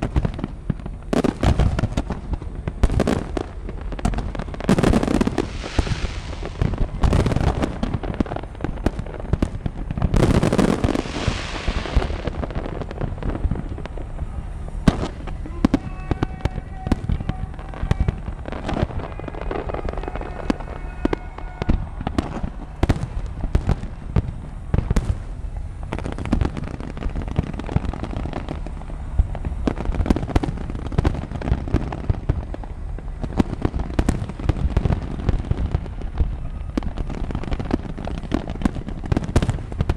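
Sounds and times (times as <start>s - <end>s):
fireworks bursting with bangs: 0.0s - 39.9s
heavy rumbling booms: 0.0s - 39.9s.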